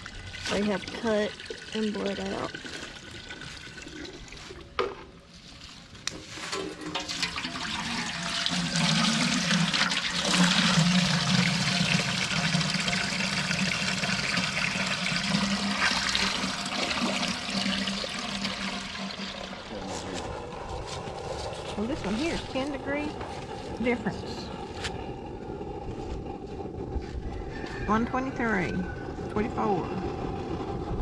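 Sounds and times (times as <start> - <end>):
water rushing into a pot: 0.0 - 26.0.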